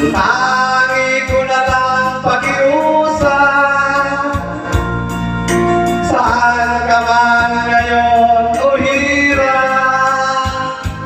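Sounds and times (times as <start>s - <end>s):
backing track with steady beat: 0.0s - 11.0s
man singing into a microphone: 0.0s - 11.0s.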